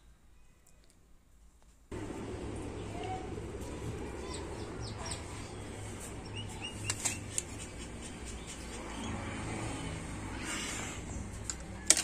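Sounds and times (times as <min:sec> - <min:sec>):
steady low hum: 0:01.9 - 0:11.6.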